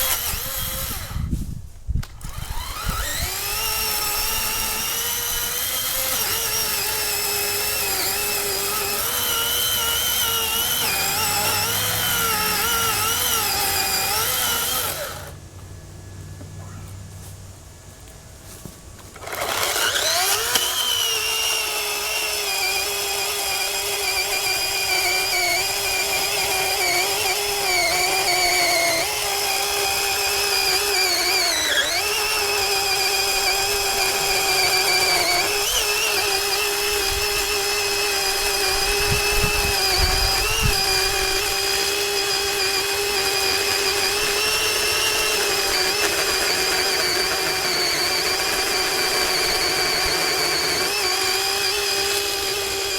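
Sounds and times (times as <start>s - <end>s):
electric chainsaw whine: 0.0s - 16.5s, 18.6s - 52.9s.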